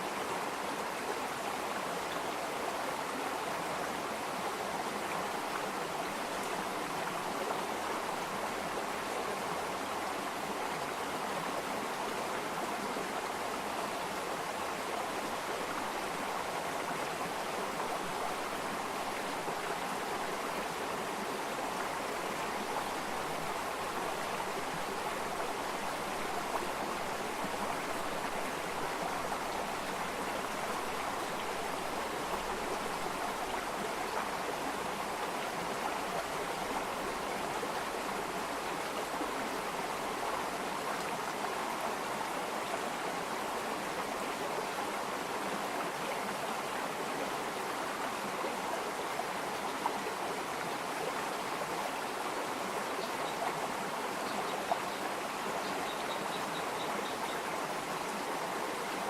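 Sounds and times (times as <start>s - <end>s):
running water stream: 0.0s - 59.0s.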